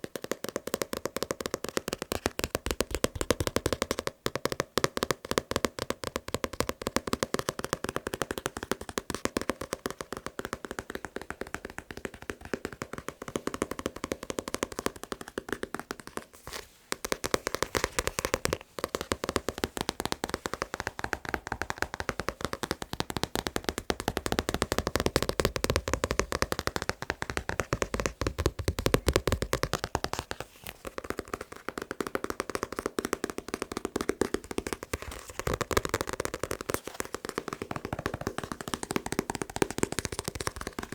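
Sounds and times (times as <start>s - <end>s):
fast tapping on a book: 0.0s - 40.9s.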